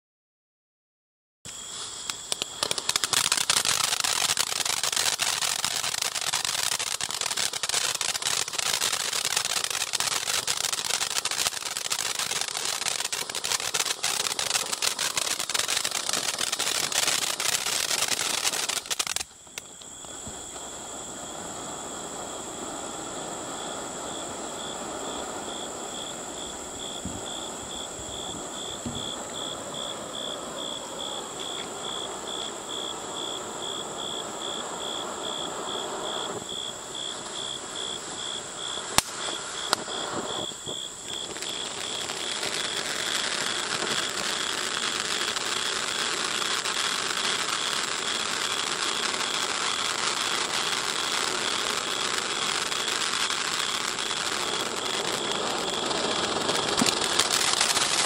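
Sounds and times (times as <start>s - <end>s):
fountain firework crackling and hissing: 1.5s - 58.0s
sharp firework cracks: 1.5s - 58.0s.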